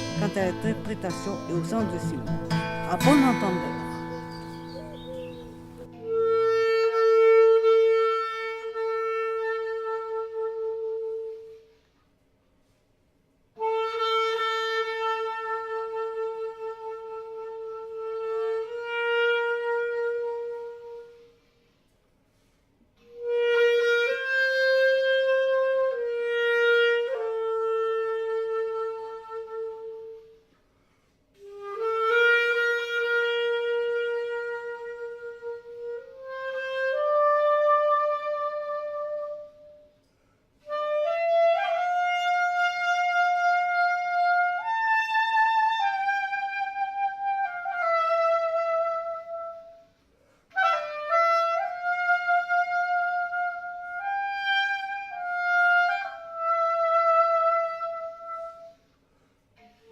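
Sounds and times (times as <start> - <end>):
solo wind instrument melody: 0.0 - 11.8, 13.6 - 30.5, 31.4 - 40.0, 40.6 - 58.9.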